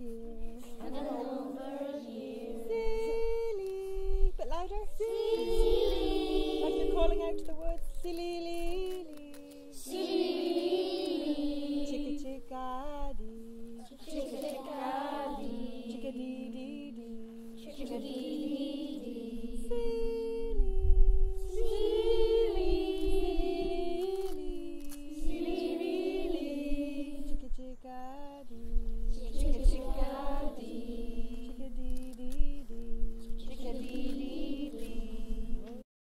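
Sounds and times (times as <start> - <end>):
woman singing slow song: 0.0 - 5.3, 6.2 - 10.0, 11.8 - 35.8.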